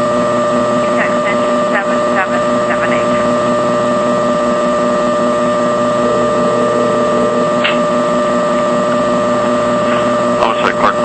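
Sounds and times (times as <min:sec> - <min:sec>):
loud electrical hum: 0:00.0 - 0:11.0.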